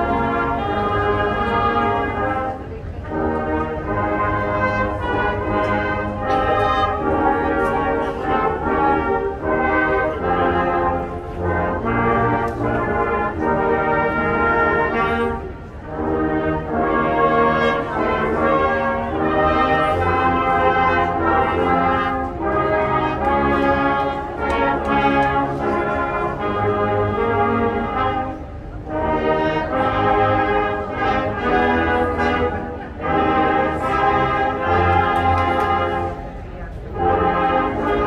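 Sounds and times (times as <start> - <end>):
marching band brass playing: 0.0 - 38.0.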